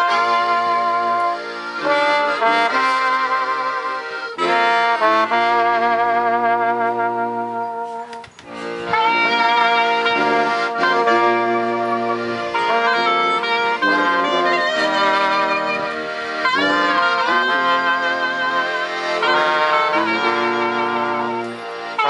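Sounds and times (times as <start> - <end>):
small wind ensemble playing a hymn: 0.0 - 22.0.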